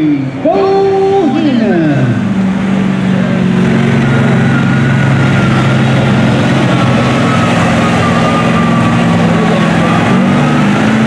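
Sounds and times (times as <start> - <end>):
truck engine running loud: 0.0 - 11.0.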